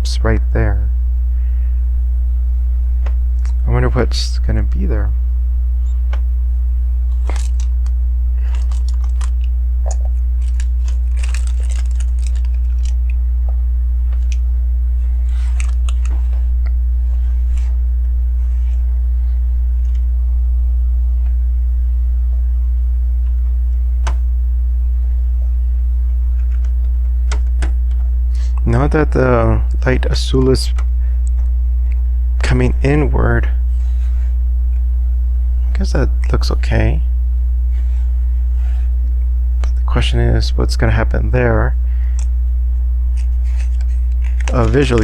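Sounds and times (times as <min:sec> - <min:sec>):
loud steady low hum: 0:00.0 - 0:45.0.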